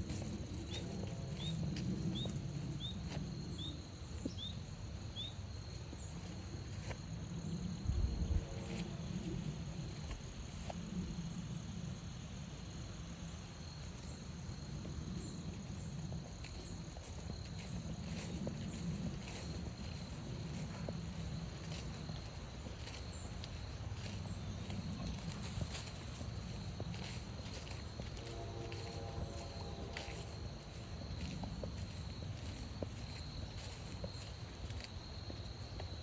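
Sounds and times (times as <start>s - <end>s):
footsteps on forest trail: 0.0s - 11.1s, 13.2s - 36.0s
crickets trilling: 0.0s - 36.0s.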